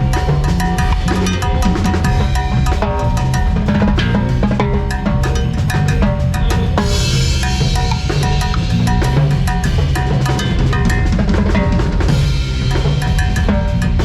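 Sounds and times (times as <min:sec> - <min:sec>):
drum kit groove: 0:00.0 - 0:14.0
sustained bass notes: 0:00.0 - 0:14.0.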